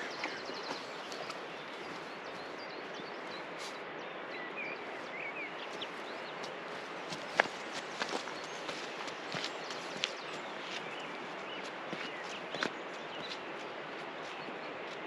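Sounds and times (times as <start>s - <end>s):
birds chirping: 0.0s - 15.0s
rushing outdoor background: 0.0s - 15.0s.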